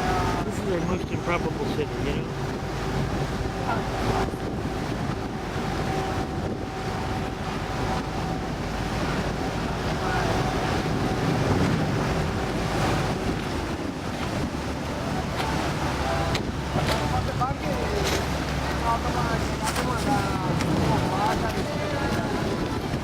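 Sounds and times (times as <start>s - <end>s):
boat engine hum: 0.0s - 23.0s
water rushing past hull: 0.0s - 23.0s
wind buffeting microphone: 0.0s - 23.0s.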